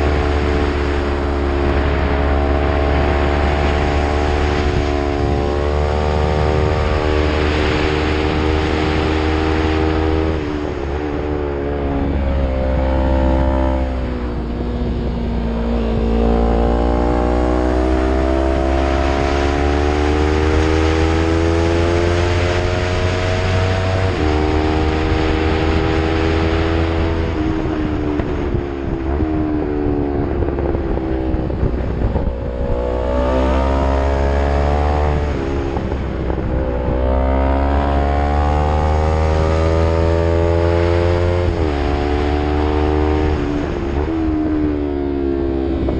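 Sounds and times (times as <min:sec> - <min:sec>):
motorcycle engine accelerating uphill: 0:00.0 - 0:45.9.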